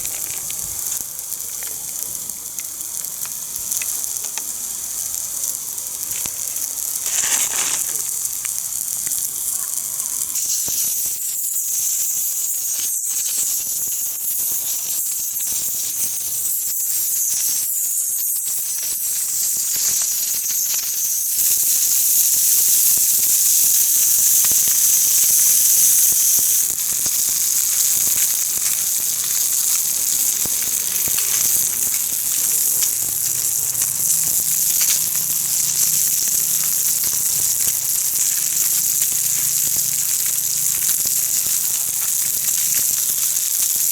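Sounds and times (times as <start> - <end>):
fish sizzling in frying pan: 0.0 - 43.9.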